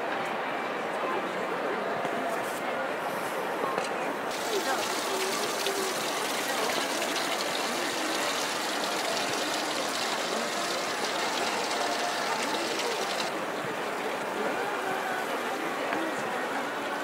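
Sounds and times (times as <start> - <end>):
crowd babble: 0.0 - 17.0.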